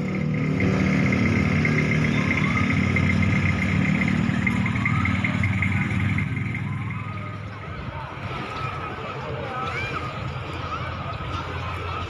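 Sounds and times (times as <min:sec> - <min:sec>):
engine running with whine: 0:00.0 - 0:12.0.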